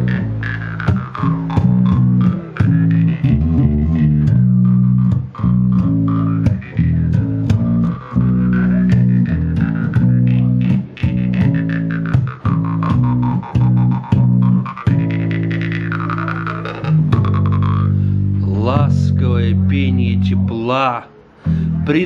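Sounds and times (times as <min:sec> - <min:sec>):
jaw harp twanging: 0:00.0 - 0:19.3
low drone: 0:00.0 - 0:19.7
electric bass: 0:00.0 - 0:22.0.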